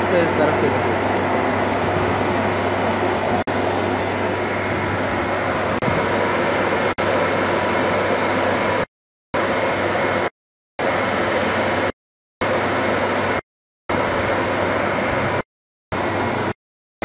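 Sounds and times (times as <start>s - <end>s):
fan air rushing: 0.0s - 16.6s
refrigeration unit humming: 0.0s - 16.6s.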